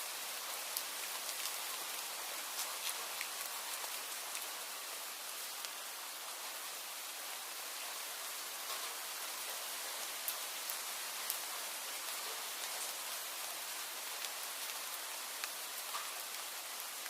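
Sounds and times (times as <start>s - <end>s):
steady rain hissing: 0.0s - 17.0s
raindrops ticking nearby: 0.1s - 17.0s.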